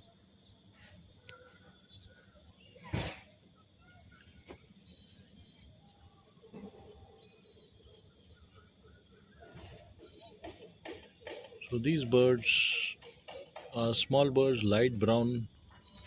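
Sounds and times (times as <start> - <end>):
crickets droning: 0.0 - 16.0
small birds chirping: 0.0 - 16.0.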